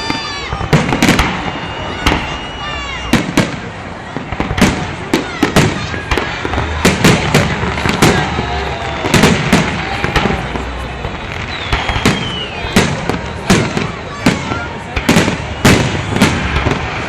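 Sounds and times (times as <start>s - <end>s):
falling firework whistle: 0.0s - 3.6s, 5.1s - 17.0s
fireworks bangs: 0.0s - 17.0s.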